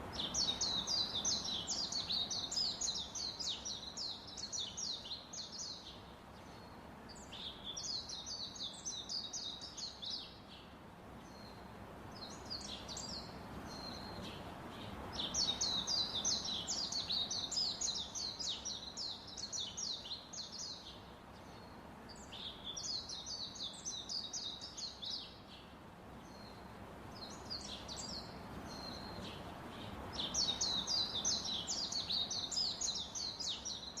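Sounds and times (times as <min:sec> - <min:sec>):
faint steady hum: 0:00.0 - 0:34.0
small birds chirping: 0:00.0 - 0:34.0.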